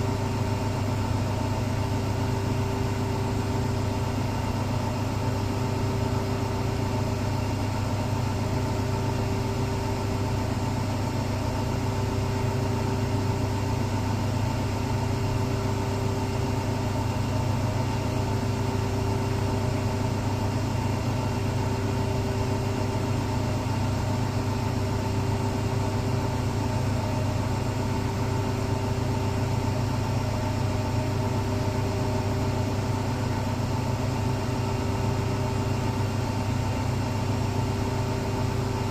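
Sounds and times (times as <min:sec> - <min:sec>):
laundry machine humming: 0:00.0 - 0:38.9.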